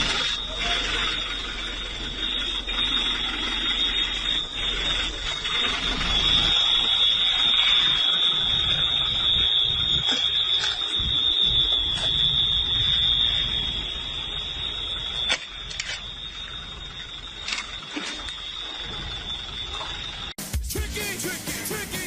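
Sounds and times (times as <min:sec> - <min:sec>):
high-pitched alarm tone: 0:00.0 - 0:22.0.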